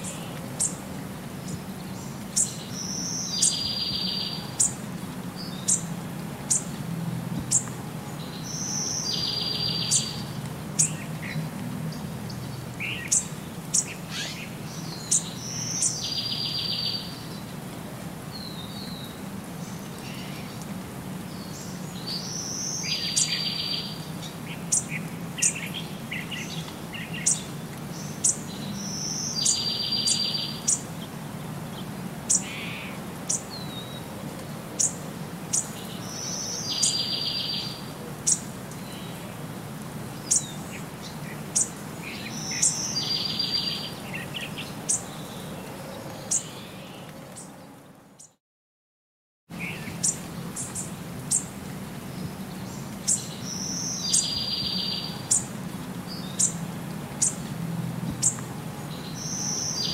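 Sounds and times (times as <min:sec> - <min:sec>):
birds chirping: 0:00.0 - 0:06.8, 0:07.5 - 0:17.5, 0:18.3 - 0:34.1, 0:34.8 - 0:39.3, 0:40.1 - 0:48.4, 0:49.5 - 0:56.6, 0:58.2 - 0:59.9.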